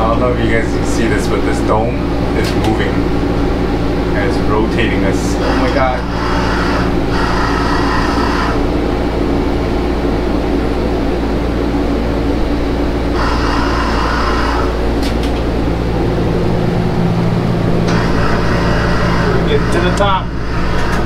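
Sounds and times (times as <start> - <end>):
air-conditioning fan humming: 0.0 - 21.0
low held tones: 0.0 - 21.0.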